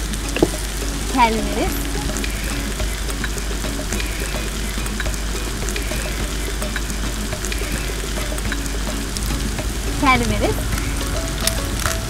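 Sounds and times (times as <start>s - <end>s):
ladle ticking in a wok: 0.0s - 12.0s.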